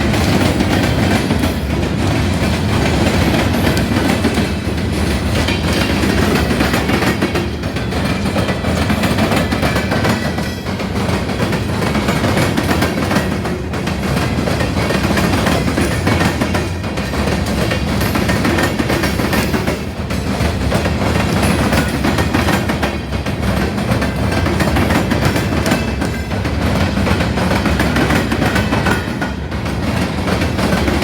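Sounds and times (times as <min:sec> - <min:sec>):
train wheels rumbling on rail: 0:00.0 - 0:31.0
wheels clacking over rail joints: 0:00.0 - 0:31.0.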